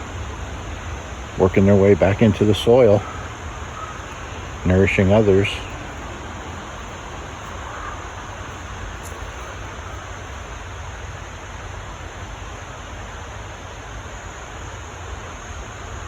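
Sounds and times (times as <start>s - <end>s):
low unsteady rumble: 0.0s - 16.0s
outdoor background hiss: 0.0s - 16.0s.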